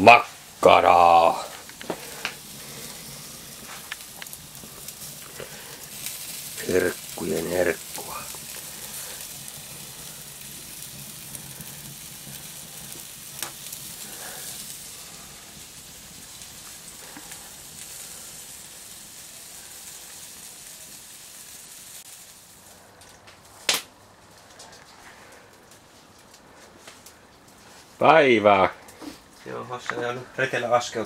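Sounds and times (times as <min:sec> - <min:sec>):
sausages sizzling over fire: 0:00.0 - 0:31.0.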